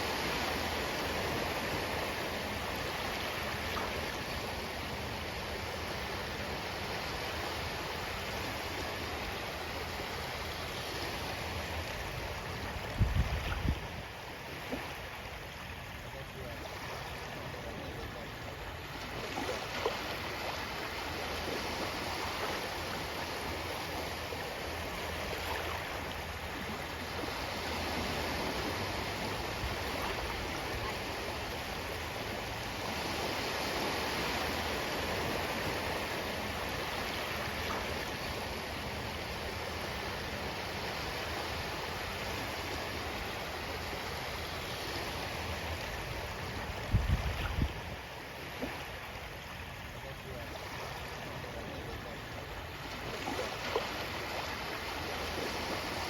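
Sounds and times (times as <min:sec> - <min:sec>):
ocean waves washing on shore: 0:00.0 - 0:56.0.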